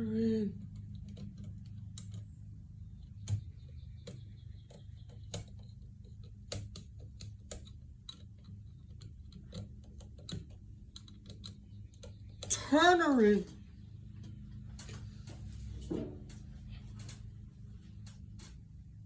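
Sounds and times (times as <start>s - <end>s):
steady low hum: 0.0s - 19.0s
sharp clicks and light taps: 0.6s - 18.7s.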